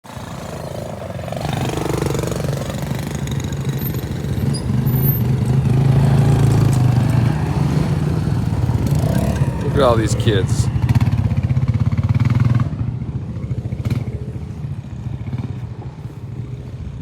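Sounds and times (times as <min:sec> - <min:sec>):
atv engines running: 0:00.0 - 0:17.0.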